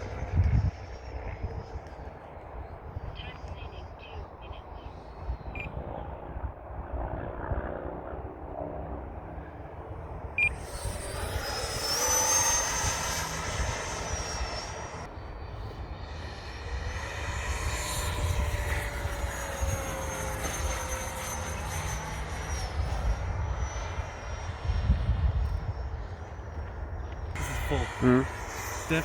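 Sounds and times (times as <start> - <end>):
low wind rumble: 0.0 - 29.0
model jet fan whining: 0.0 - 29.0.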